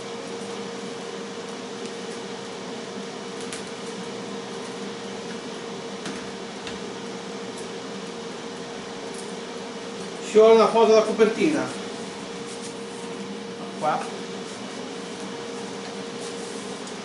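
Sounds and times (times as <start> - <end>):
air fryer fan whoosh: 0.0 - 17.0.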